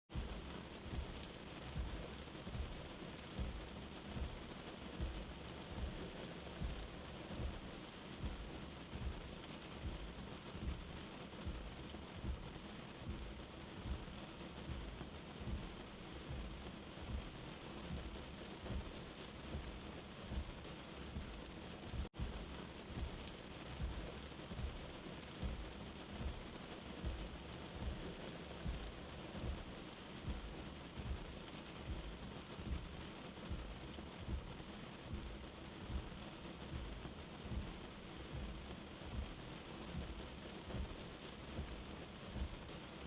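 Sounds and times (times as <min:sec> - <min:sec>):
rain falling: 0:00.1 - 0:43.0.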